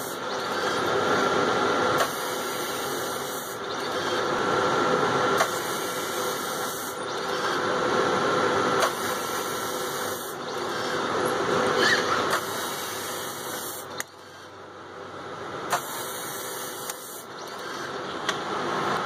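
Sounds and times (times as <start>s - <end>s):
machine whirring: 0.0s - 14.6s, 15.7s - 19.0s.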